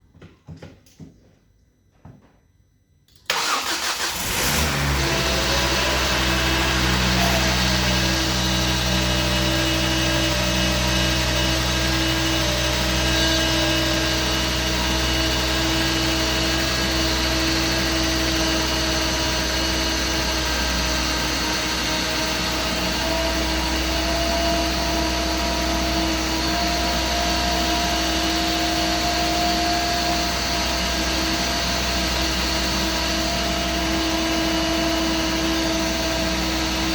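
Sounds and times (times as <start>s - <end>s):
car engine starting and idling: 3.2s - 36.9s.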